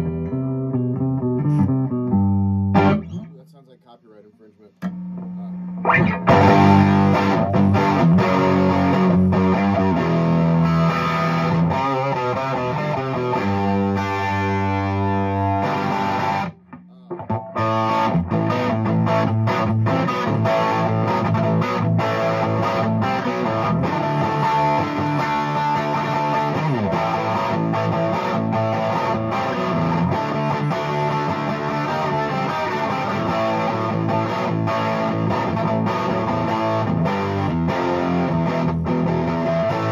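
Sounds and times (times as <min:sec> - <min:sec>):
electric guitar playing notes and chords: 0:00.0 - 0:03.4, 0:04.8 - 0:39.9.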